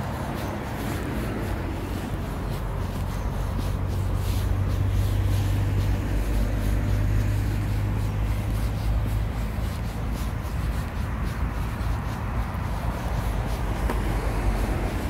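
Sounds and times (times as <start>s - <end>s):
street noise: 0.0s - 15.0s
vehicle engine humming: 0.0s - 15.0s.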